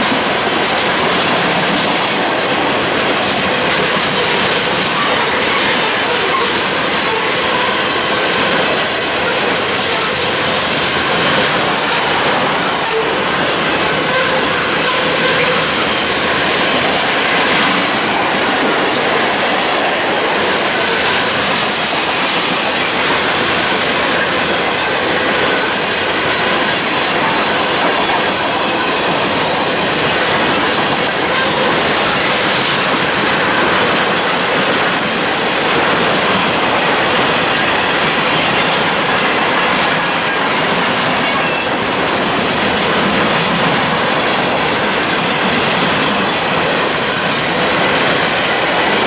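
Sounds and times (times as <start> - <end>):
train wheels running over track: 0.0 - 49.0.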